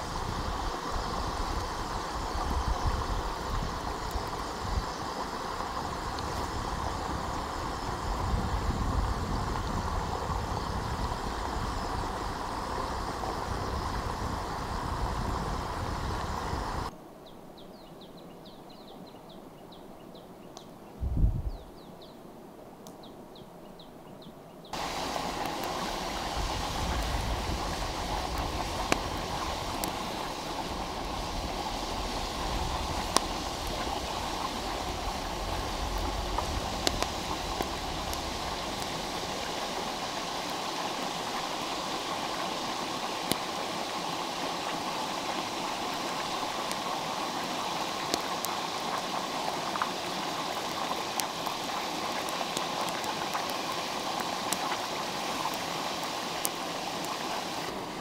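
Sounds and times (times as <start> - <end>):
stream rushing: 0.0 - 16.9, 24.8 - 58.0.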